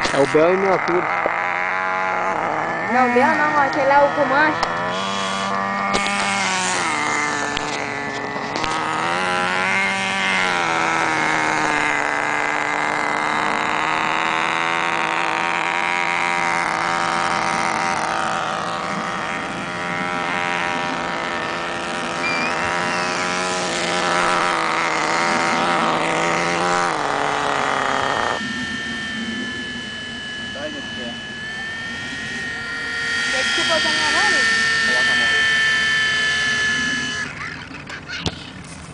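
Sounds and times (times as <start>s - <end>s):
rc helicopter motor whining: 0.0s - 38.9s.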